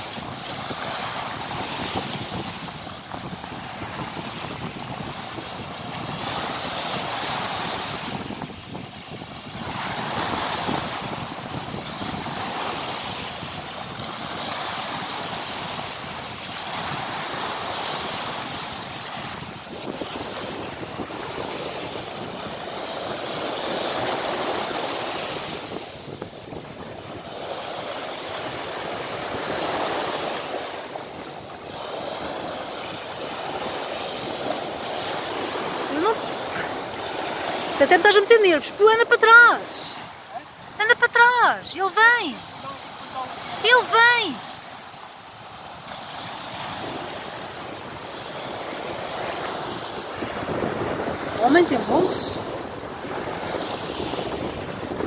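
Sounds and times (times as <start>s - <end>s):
surf washing up beach: 0.0s - 55.0s.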